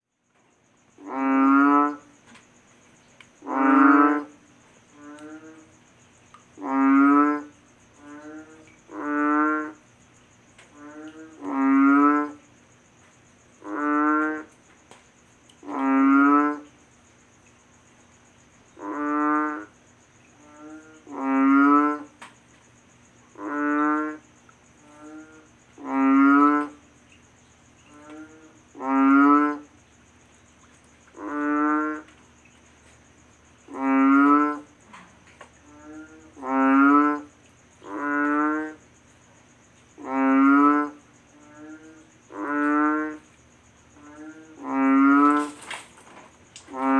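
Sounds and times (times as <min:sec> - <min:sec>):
frog croaking: 0:00.5 - 0:46.9.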